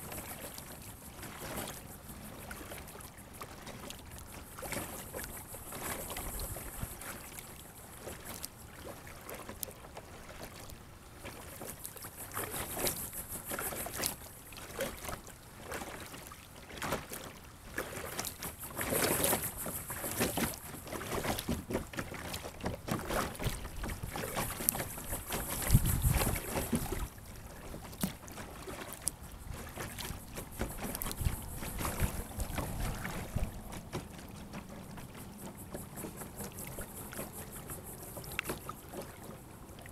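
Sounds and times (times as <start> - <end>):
kayak paddle splashing water: 0.0 - 39.9
water sloshing against plastic hull: 0.0 - 39.9.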